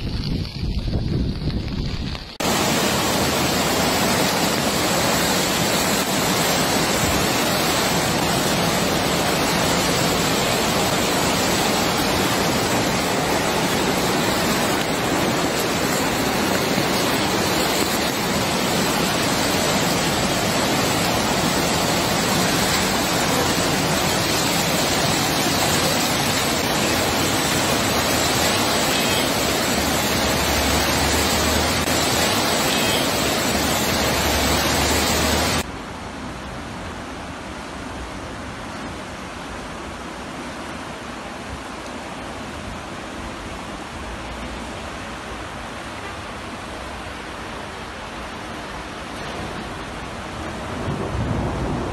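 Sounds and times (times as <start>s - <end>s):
floodwater rushing: 1.7s - 51.9s.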